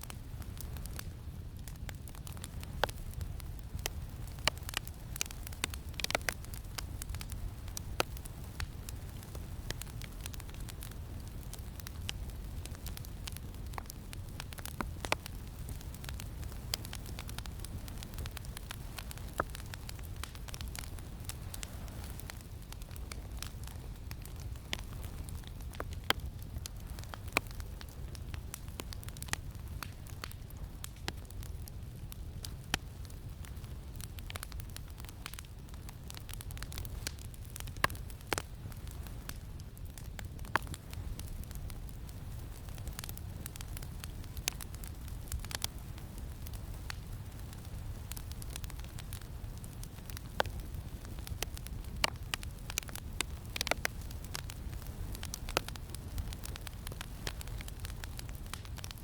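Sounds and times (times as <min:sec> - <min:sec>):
campfire crackling and popping: 0:00.0 - 0:59.0
low rumble of wind: 0:00.0 - 0:59.0.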